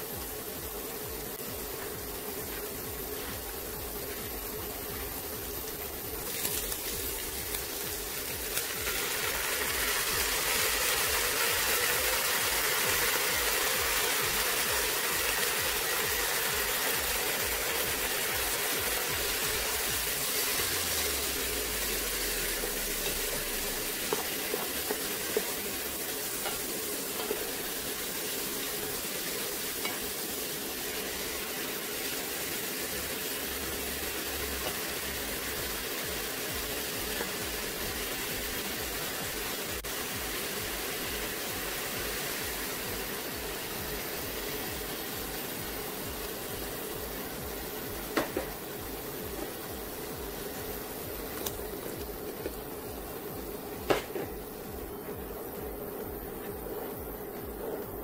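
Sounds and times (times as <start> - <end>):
lentils and vegetables sizzling: 0.0 - 58.0.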